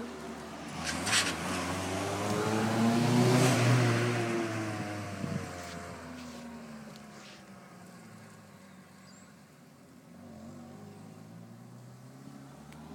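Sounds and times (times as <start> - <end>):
car engine driving away: 0.0 - 9.4, 10.0 - 12.9.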